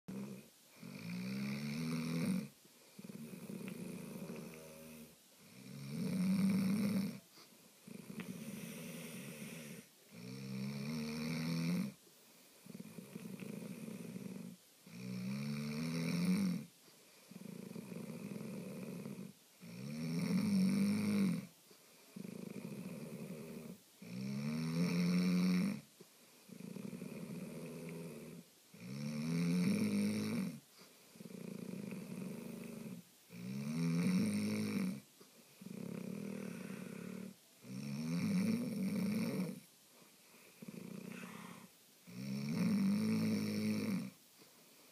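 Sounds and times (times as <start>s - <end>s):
man snoring: 0.1s - 7.2s, 7.8s - 12.0s, 12.6s - 16.7s, 17.3s - 21.5s, 22.2s - 25.8s, 26.5s - 30.6s, 31.2s - 35.0s, 35.6s - 39.6s, 40.6s - 44.2s.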